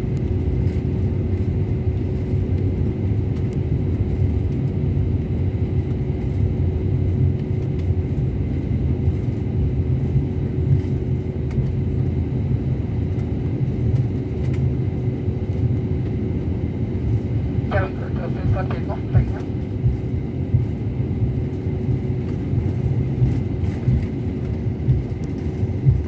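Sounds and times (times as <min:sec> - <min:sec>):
constant cabin hum: 0:00.0 - 0:26.0
low rumble of jet engines: 0:00.0 - 0:26.0.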